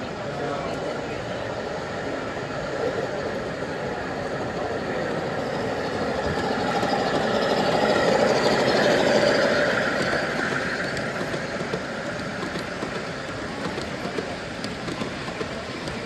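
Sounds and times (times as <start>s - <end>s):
model train running past: 0.0s - 16.0s.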